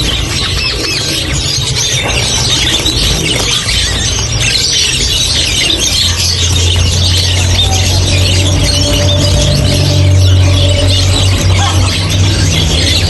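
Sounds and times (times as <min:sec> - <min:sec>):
parrots chirping and chattering: 0:00.0 - 0:13.0.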